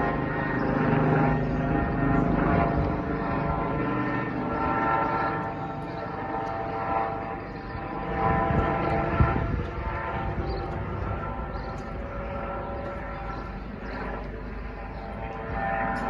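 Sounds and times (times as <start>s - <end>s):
helicopter rotor and turbine drone: 0.0s - 16.0s.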